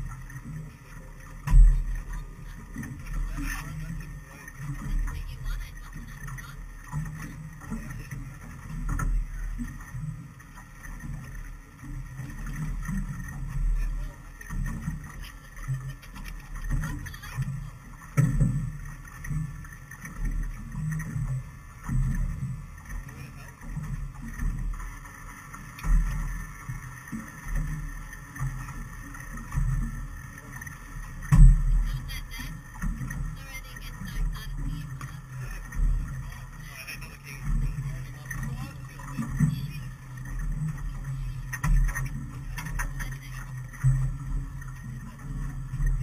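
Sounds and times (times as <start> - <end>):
small boat rumbling: 0.0 - 46.0.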